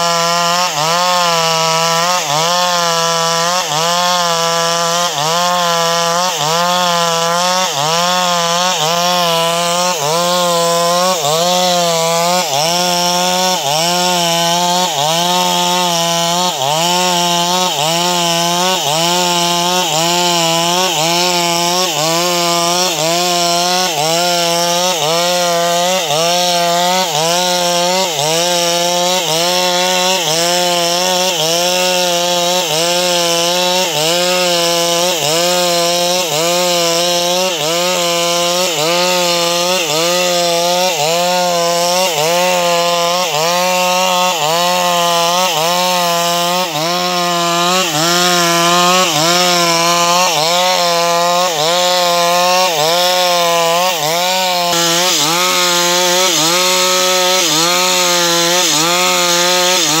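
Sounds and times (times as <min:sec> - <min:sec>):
chainsaw cutting through log: 0:00.0 - 1:00.0.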